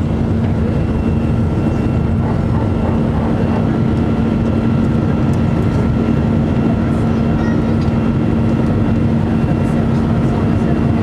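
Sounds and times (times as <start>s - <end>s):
jet engine cabin noise: 0.0s - 11.0s.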